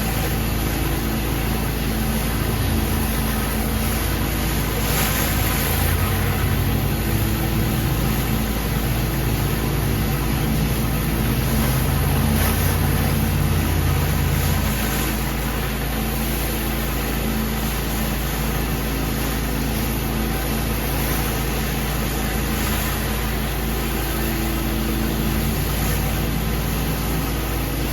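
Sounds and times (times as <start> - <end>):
pressure washer engine running: 0.0 - 27.9.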